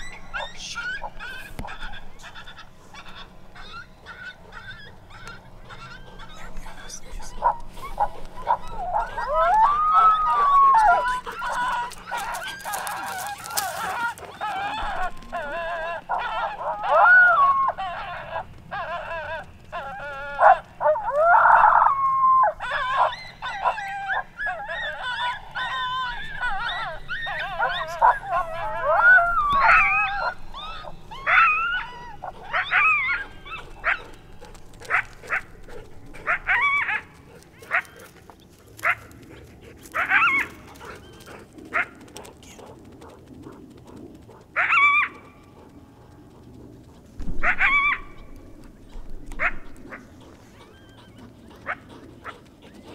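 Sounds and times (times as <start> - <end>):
dog yelping and howling: 0.0 - 52.9.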